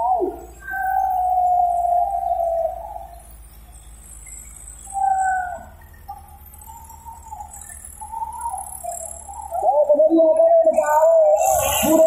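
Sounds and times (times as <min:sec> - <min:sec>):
drawn-out high call: 0:00.0 - 0:12.0
tractor engines rumbling: 0:00.0 - 0:12.0.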